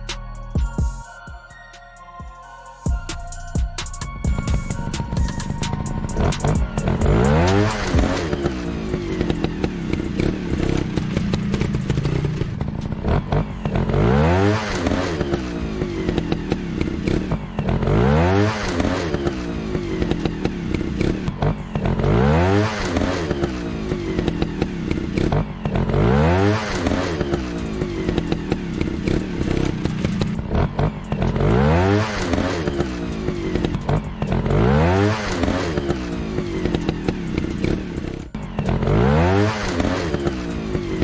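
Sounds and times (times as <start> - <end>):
motorcycle engine revving: 3.4 - 41.0.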